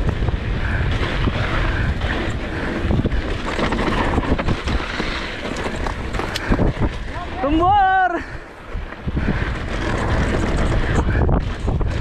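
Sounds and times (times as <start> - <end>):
bike rattles and knocks: 0.0 - 7.7, 8.8 - 12.0
tyres rolling on dirt: 0.0 - 12.0
wind on microphone: 0.0 - 12.0.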